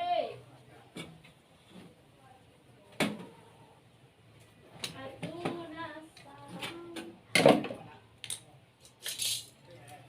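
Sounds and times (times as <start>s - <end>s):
faint background voices: 0.0s - 10.0s.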